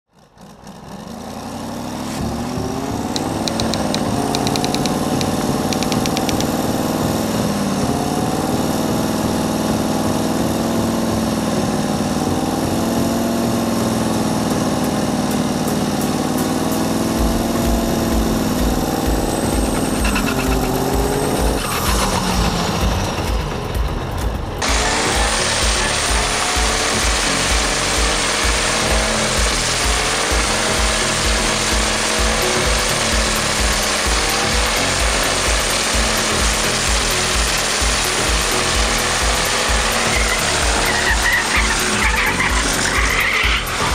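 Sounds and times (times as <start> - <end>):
diesel truck engine at high revs: 0.1 - 43.9.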